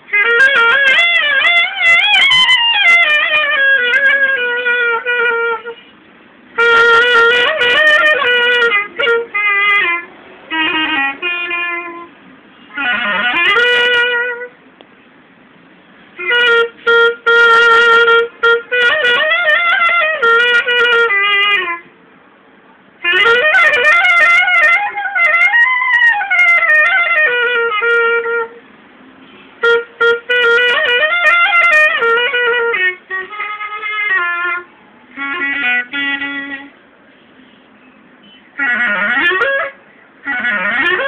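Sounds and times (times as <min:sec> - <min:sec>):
solo clarinet playing slowly: 0:00.0 - 0:14.6, 0:16.2 - 0:21.9, 0:23.0 - 0:28.6, 0:29.6 - 0:36.8, 0:38.5 - 0:41.0.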